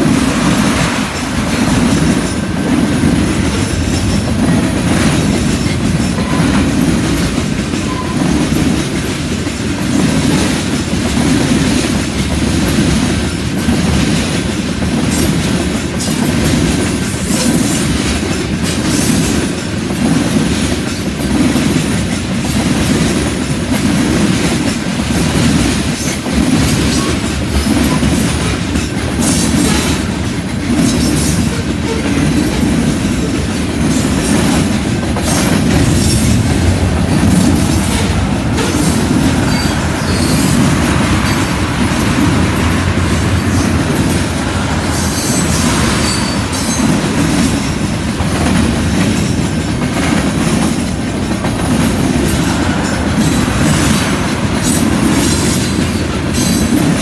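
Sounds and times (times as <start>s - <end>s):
clickety-clack of wheels: 0.0s - 57.0s
rumble of steel wheels on rail: 0.0s - 57.0s.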